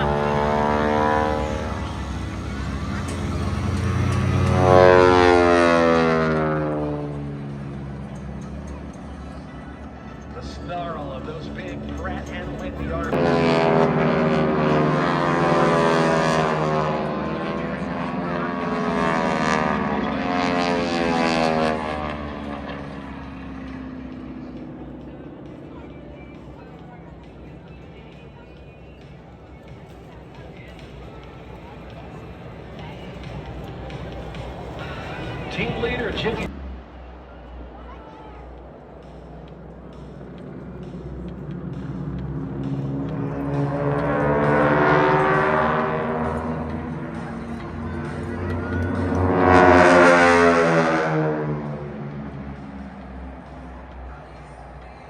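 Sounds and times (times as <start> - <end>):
propeller planes passing by: 0.0 - 55.0.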